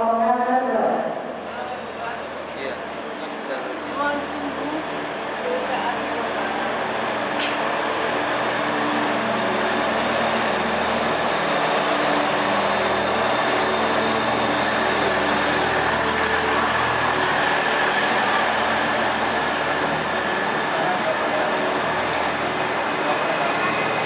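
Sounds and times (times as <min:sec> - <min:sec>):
diesel train engine droning: 0:00.7 - 0:24.0.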